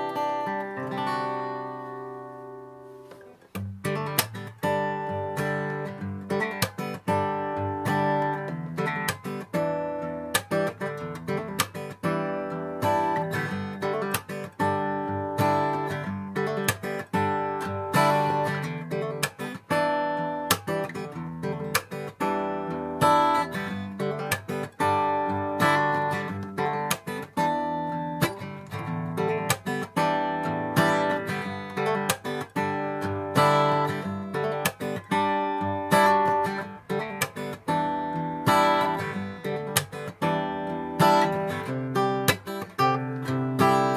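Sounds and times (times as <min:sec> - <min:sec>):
acoustic guitar strums and plucks: 0:00.0 - 0:43.9.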